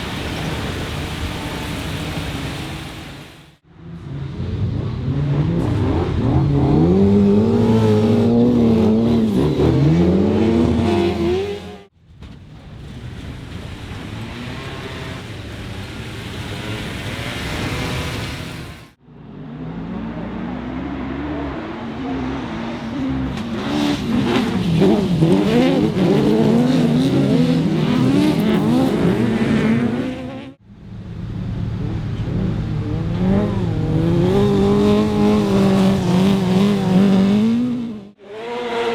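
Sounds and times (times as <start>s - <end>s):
racing car engines revving: 0.0s - 12.0s, 12.8s - 38.9s.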